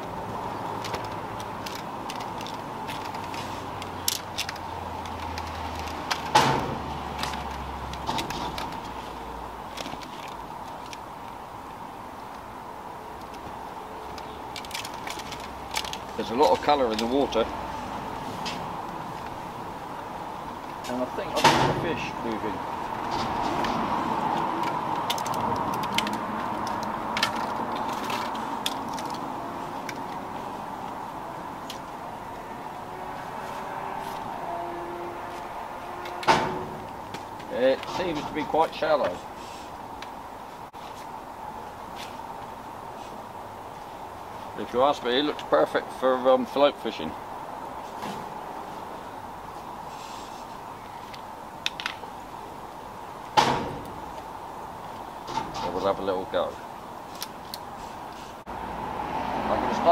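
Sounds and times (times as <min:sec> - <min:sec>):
steady background hiss: 0:00.0 - 0:58.6.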